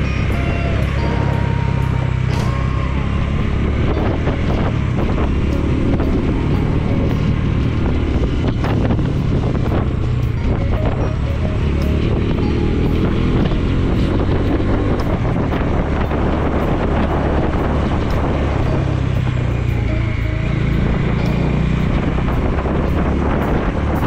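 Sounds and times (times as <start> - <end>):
motorcycle engine cruising: 0.0 - 24.0
wind noise on microphone: 0.0 - 24.0.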